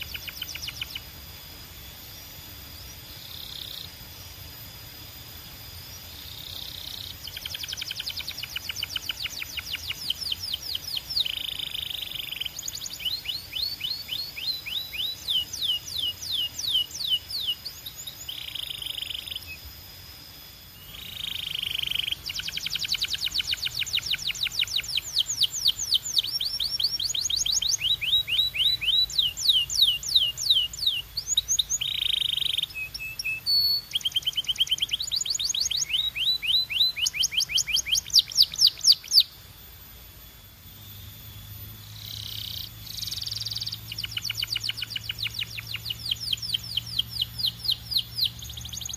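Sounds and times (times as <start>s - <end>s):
canary singing trills: 0.0s - 1.9s, 2.6s - 19.8s, 20.6s - 39.4s, 40.8s - 48.9s.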